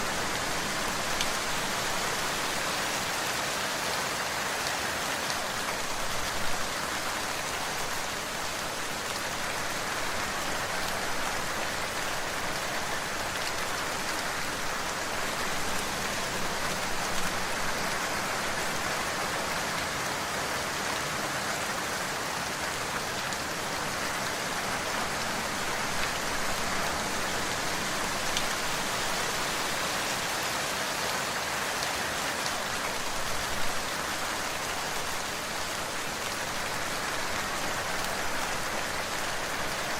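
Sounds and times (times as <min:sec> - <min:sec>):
louder raindrops: 0:00.0 - 0:39.9
steady rain on a surface: 0:00.0 - 0:39.9.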